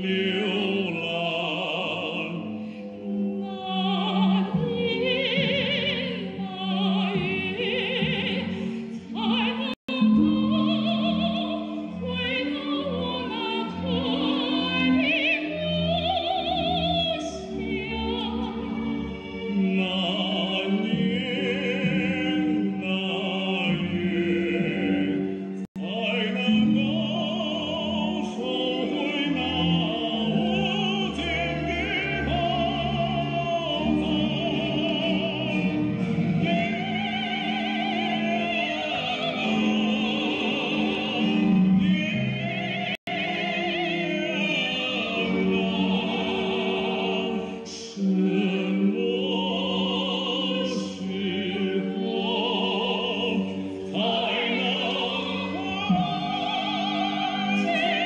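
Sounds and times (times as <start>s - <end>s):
instrumental accompaniment: 0.0s - 58.0s
singing with wide vibrato: 0.0s - 58.0s.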